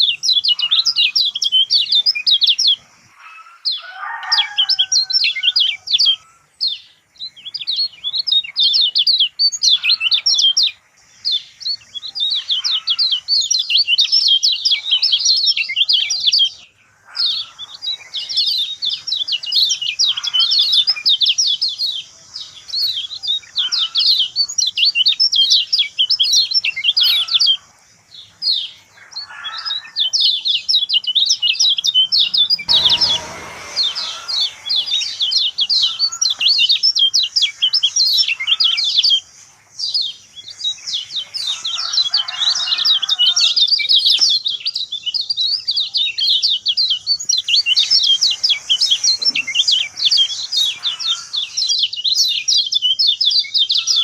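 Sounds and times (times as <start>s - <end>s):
bird singing high chirps and trills: 0.0s - 54.0s.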